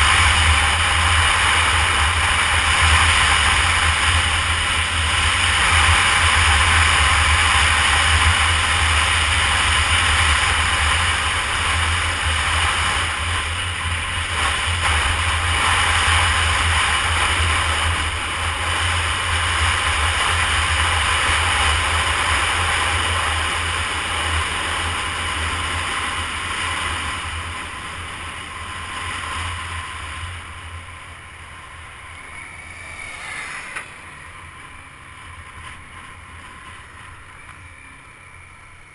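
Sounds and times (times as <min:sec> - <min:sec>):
motorcycle engine running: 0:00.0 - 0:38.9
road noise: 0:00.0 - 0:38.9.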